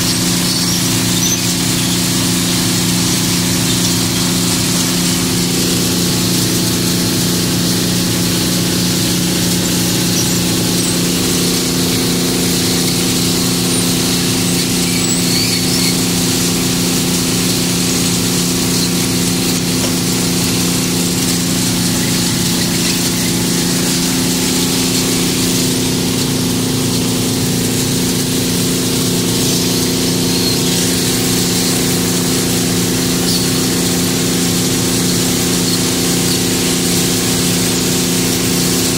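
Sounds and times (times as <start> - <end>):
machinery humming: 0.0 - 38.9.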